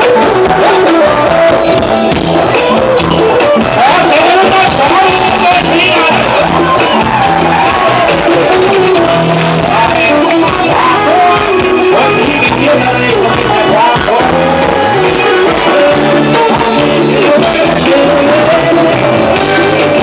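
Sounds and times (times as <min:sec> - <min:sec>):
live band playing dance song: 0:00.0 - 0:20.0
person singing: 0:00.0 - 0:20.0.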